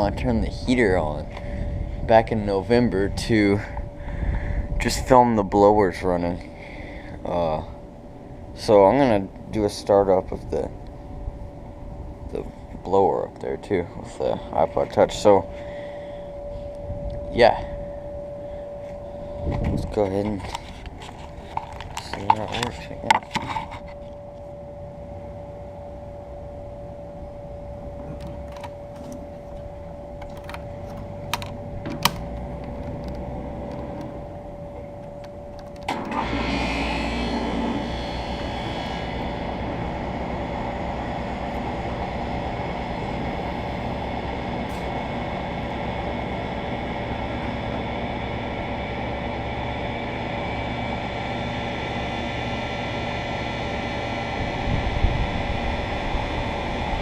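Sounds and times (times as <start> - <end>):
air conditioner humming: 0.0 - 57.0.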